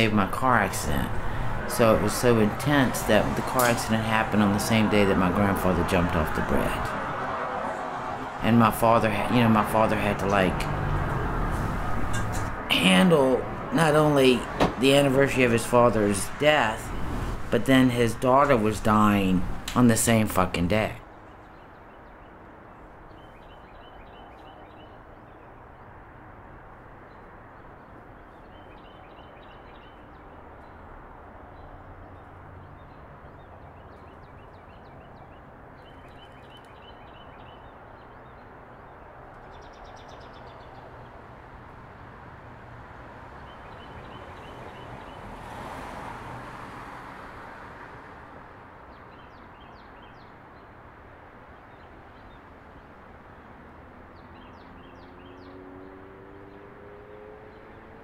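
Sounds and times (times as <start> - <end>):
vehicle passing: 0.0 - 21.0, 23.7 - 49.2, 52.4 - 58.0
road traffic hum: 0.0 - 58.0.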